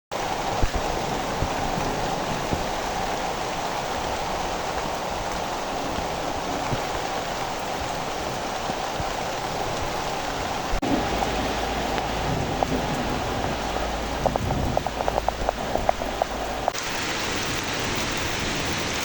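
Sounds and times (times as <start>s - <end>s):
loud raindrops: 0.1s - 19.0s
steady rain falling: 0.1s - 19.0s.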